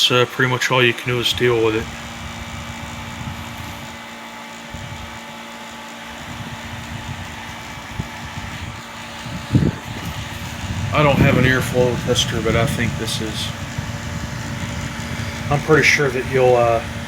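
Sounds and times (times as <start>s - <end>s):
table fan whirring: 0.0s - 17.0s.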